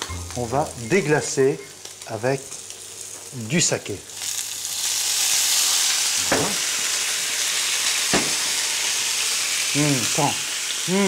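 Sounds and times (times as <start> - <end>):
scallops sizzling in a hot pan: 0.0 - 11.0.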